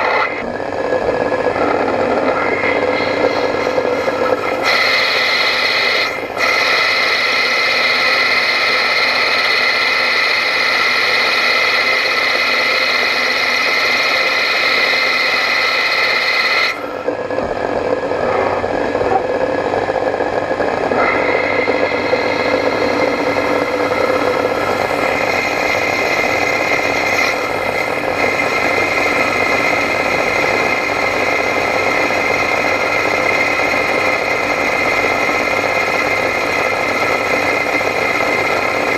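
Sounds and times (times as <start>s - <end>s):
lathe high-pitched whine: 0.0s - 38.9s.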